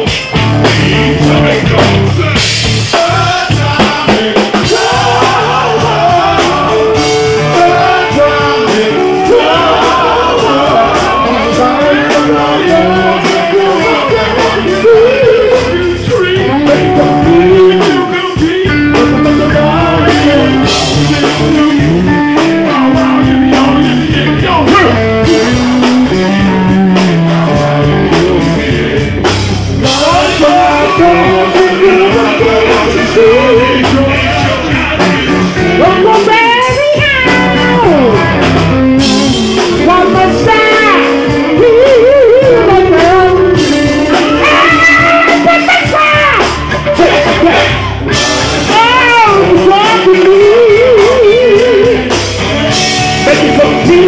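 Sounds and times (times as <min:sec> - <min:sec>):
live funk band: 0:00.0 - 0:54.0
people singing: 0:00.0 - 0:54.0.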